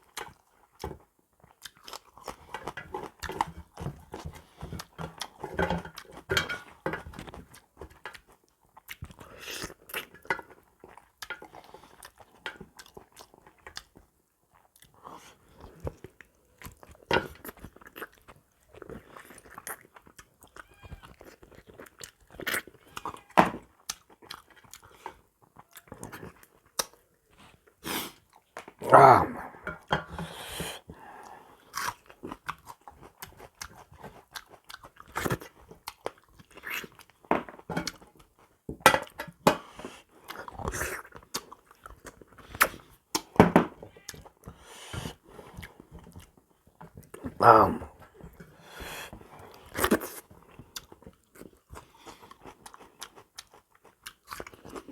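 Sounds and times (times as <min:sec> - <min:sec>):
person chewing and crunching: 0:00.0 - 0:54.9.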